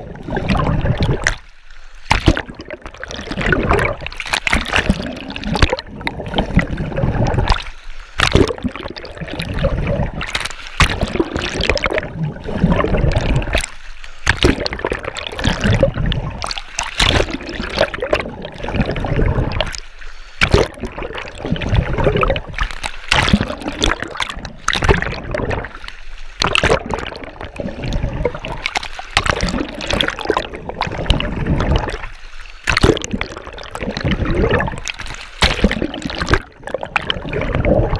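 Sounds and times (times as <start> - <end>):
water churning and bubbling: 0.0 - 37.9.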